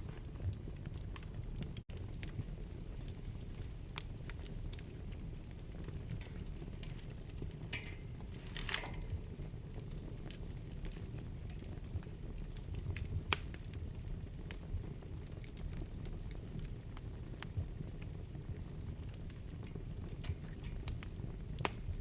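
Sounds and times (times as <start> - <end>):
burning logs crackling: 0.0 - 22.0
fire rumbling: 0.0 - 22.0.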